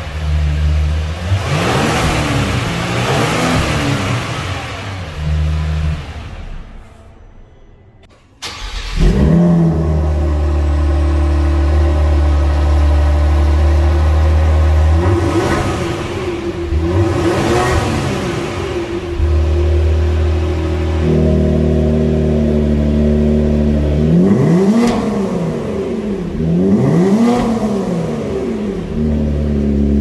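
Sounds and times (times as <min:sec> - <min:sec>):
car engine idling: 0:00.0 - 0:30.0
car exhaust revving: 0:00.0 - 0:30.0.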